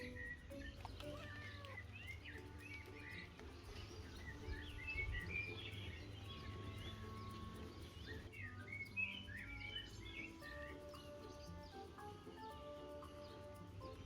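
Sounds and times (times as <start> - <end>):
songbirds chirping and singing: 0.0 - 14.0.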